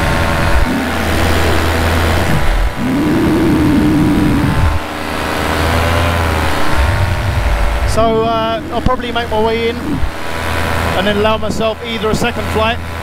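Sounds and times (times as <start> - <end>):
paramotor engine droning: 0.0 - 13.0.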